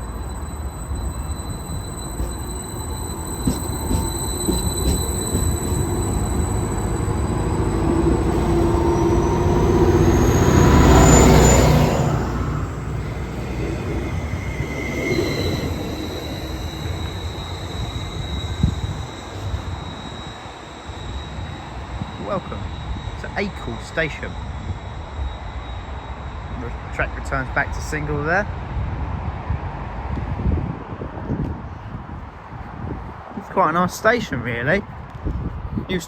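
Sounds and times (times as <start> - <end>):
high-pitched wheel squeal: 0.0 - 33.0
train rumbling past on rails: 0.0 - 36.0.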